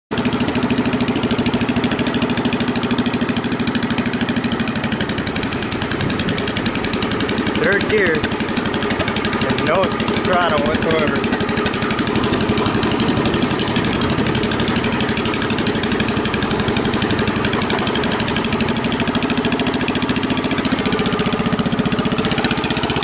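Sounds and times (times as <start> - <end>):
garden tractor engine running: 0.1 - 23.0.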